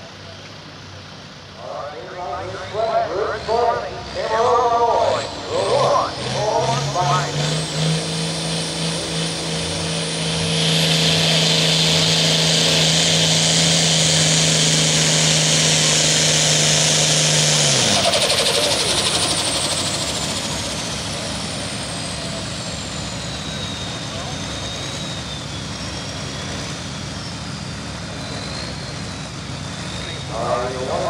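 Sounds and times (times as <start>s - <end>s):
diesel engine revving: 1.0s - 31.0s.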